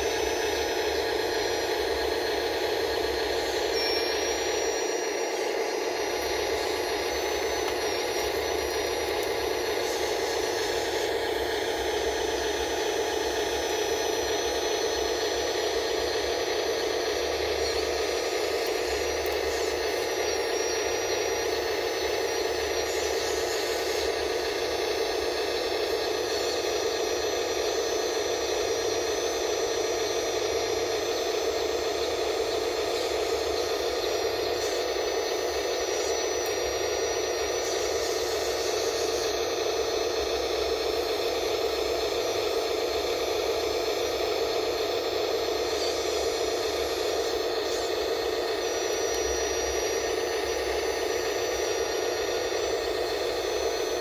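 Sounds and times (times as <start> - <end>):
electric pump whirring: 0.0 - 54.0.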